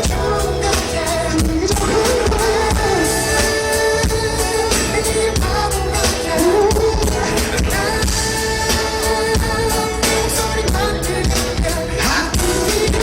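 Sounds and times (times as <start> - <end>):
pop song vocals: 0.0 - 13.0
steady beat: 1.3 - 13.0.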